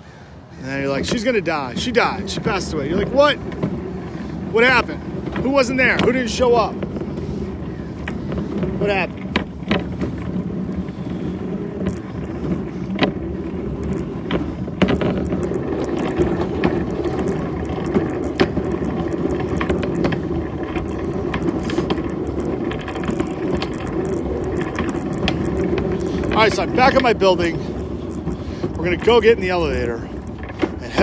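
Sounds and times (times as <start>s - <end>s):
cart wheels rumbling on pavement: 0.0s - 31.0s
clicks and rattles: 0.8s - 31.0s.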